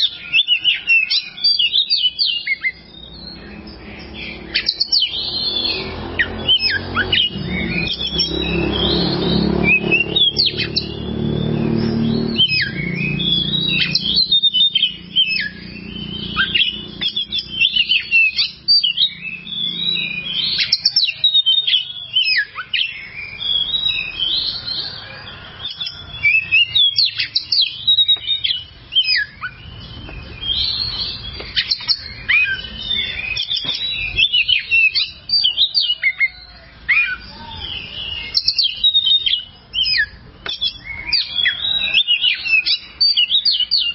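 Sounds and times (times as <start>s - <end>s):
bird singing chirps and trills: 0.0s - 43.9s.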